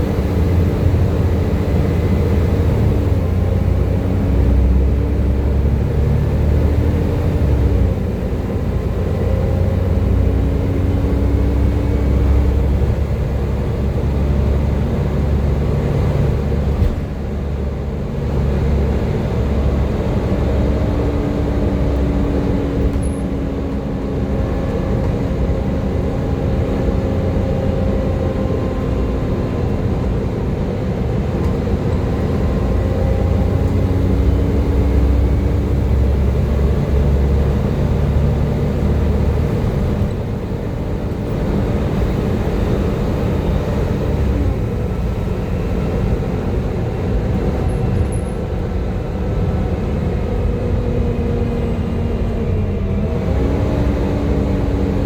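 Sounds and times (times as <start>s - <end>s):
bus engine whine and rumble: 0.0s - 55.0s.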